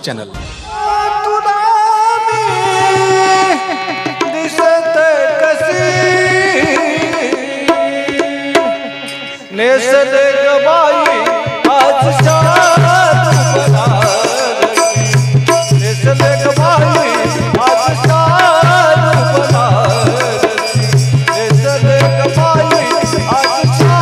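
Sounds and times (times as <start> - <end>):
drum accompaniment: 0.0 - 24.0
man singing into microphone: 0.6 - 24.0.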